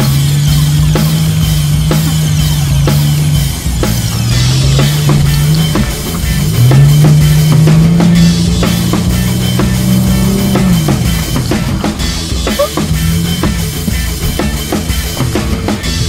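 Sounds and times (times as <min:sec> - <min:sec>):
drum-kit beat: 0:00.0 - 0:16.0
sliding low bass line: 0:00.0 - 0:16.0.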